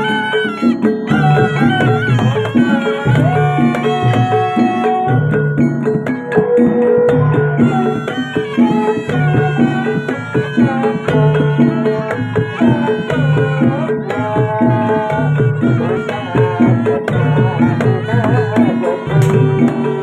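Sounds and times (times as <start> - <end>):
hand drum strokes: 0.0 - 20.0
pitched percussion pattern: 0.0 - 20.0
sliding melody line: 0.0 - 20.0.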